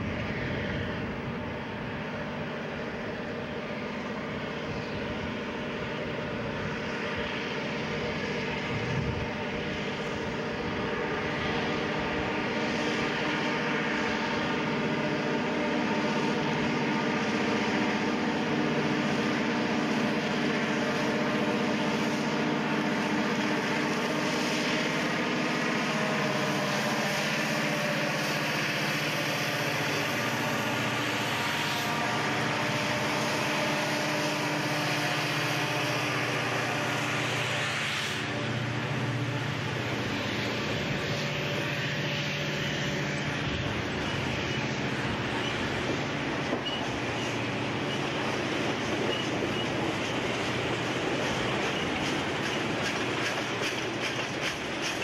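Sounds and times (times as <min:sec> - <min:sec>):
freight locomotive engines droning: 0:00.0 - 0:55.0.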